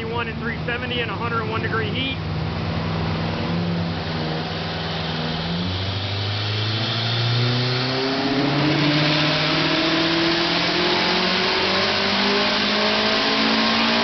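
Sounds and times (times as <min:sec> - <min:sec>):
turbocharged engine under full load: 0:00.0 - 0:14.0.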